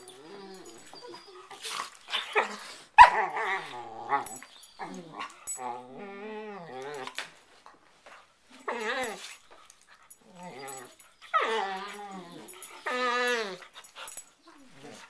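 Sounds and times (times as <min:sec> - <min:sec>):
dogs whining and growling: 0:00.0 - 0:07.3, 0:08.5 - 0:09.5, 0:10.1 - 0:15.0.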